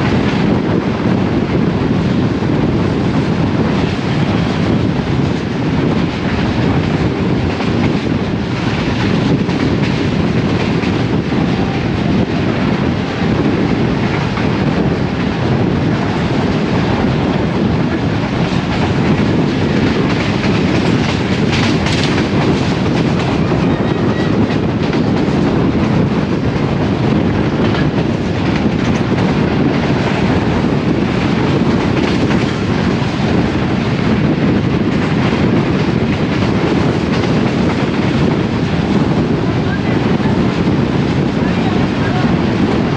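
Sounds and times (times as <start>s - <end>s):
train wheels clickety-clack: 0.0s - 42.9s.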